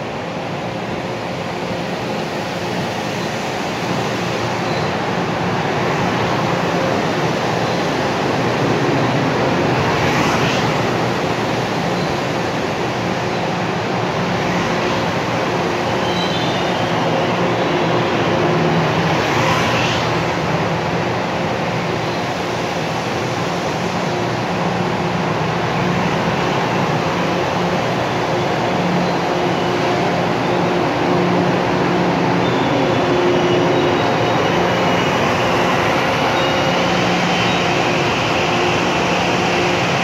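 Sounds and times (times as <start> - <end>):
train wheels and motors rumbling: 0.0 - 40.0.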